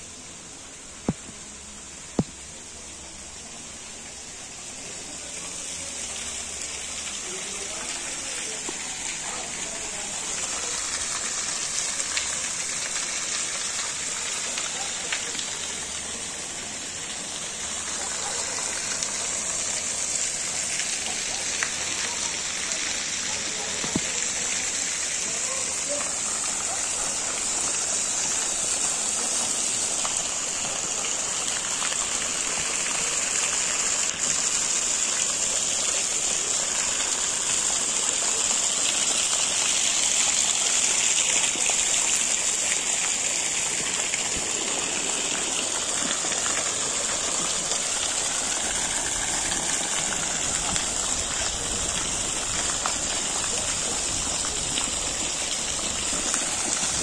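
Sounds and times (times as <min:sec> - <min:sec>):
water jets splashing into pool: 0:00.0 - 0:57.0.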